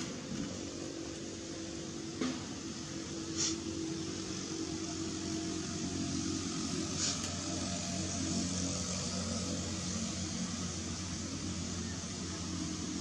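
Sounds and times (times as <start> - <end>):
even hiss: 0.0 - 13.0
steady mechanical hum: 0.0 - 13.0.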